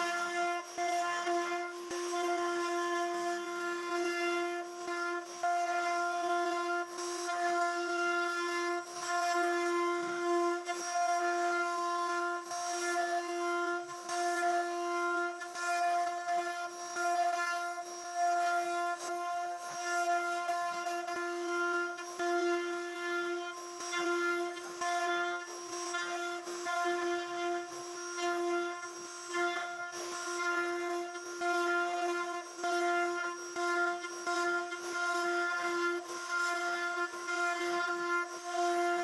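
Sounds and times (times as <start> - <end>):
cutter cutting through wood: 0.0 - 39.0
router spindle whine: 0.0 - 39.0.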